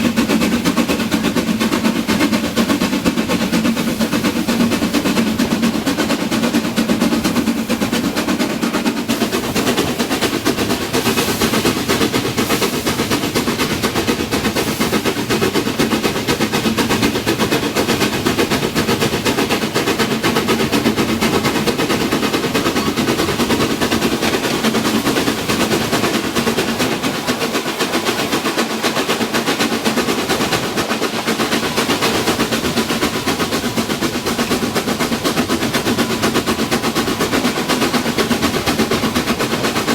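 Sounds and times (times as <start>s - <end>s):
train clattering: 0.0s - 39.9s.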